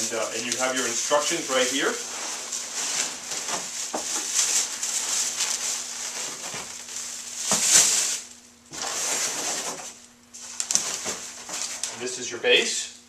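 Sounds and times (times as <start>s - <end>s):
plastic wrapping rustling: 0.0s - 12.1s.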